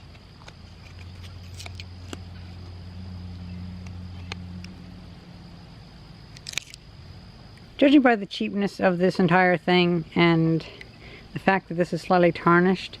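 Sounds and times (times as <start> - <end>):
low engine rumble: 0.0 - 10.8
high insect trill: 0.0 - 13.0.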